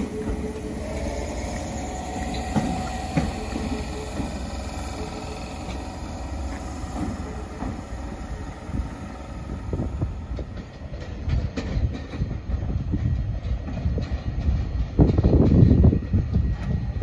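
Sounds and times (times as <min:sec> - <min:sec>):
train rumble: 0:00.0 - 0:17.0
wheels clicking over rail joints: 0:00.0 - 0:17.0.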